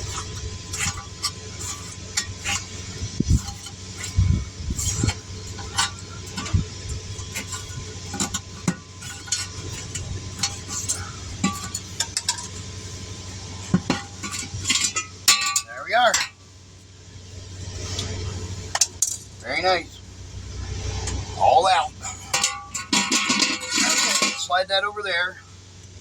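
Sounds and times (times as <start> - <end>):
steady low hum: 0.0 - 26.0
tire irons scraping wheel rim: 0.0 - 26.0.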